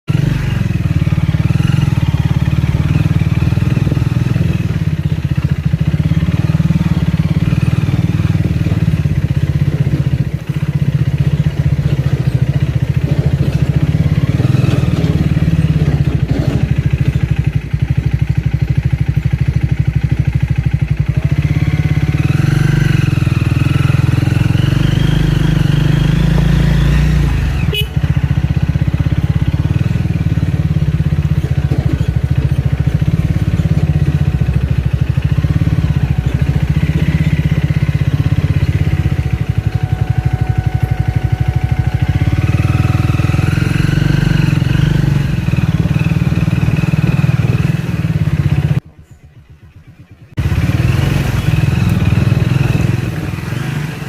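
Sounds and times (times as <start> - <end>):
motorcycle engine running: 0.1 - 54.0.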